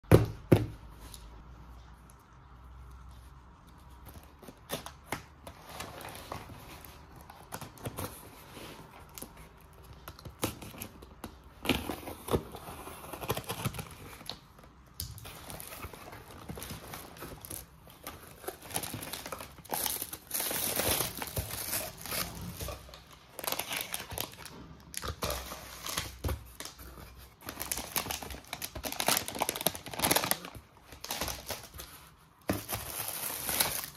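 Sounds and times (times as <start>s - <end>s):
plastic packaging crinkling: 4.0s - 33.9s.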